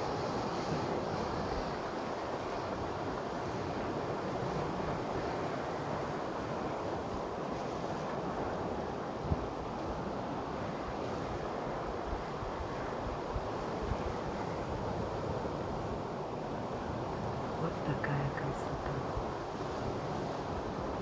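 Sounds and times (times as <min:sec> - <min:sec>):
surf on rocky shore: 0:00.0 - 0:21.0.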